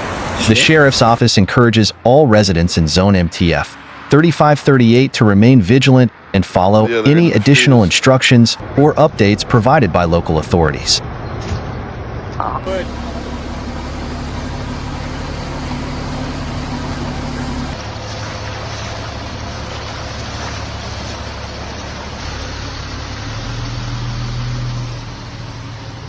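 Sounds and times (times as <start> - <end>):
road noise: 0.0 - 26.0
vehicle engine hum: 0.0 - 26.0.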